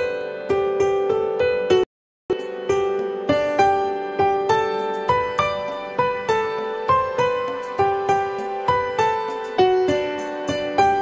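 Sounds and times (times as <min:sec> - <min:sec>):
gentle melody of struck notes: 0:00.0 - 0:11.0.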